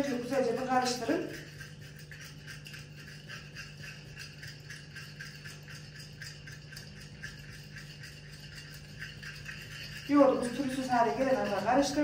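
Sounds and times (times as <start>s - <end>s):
metal spoon stirring batter in glass: 0.0s - 12.0s
steady low hum: 0.0s - 12.0s.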